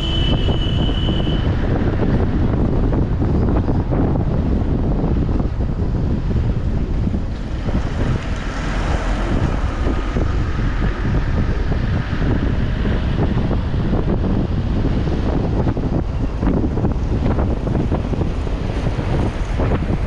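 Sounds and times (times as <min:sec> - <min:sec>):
car driving rumble: 0:00.0 - 0:20.0
wind buffeting microphone: 0:00.0 - 0:20.0.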